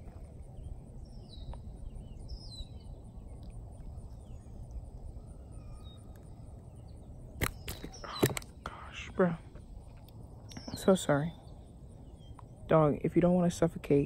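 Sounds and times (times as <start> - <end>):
birds chirping: 0.0 - 14.0
low outdoor rumble: 0.0 - 14.0.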